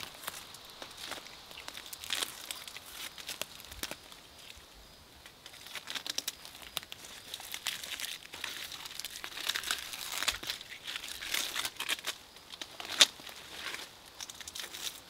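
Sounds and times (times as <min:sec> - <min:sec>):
bark crackling and tearing: 0:00.0 - 0:04.6, 0:05.5 - 0:15.0.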